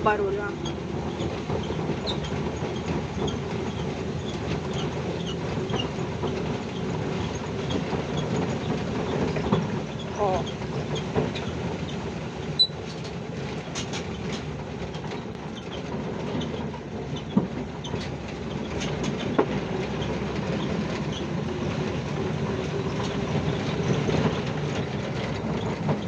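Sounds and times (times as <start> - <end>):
clatter from underneath van: 0.0 - 26.0
van driving: 0.0 - 26.0.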